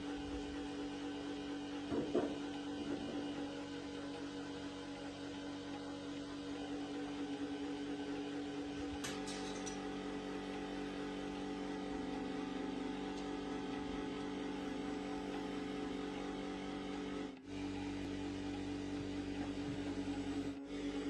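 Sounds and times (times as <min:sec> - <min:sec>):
electric motor humming: 0:00.0 - 0:21.0.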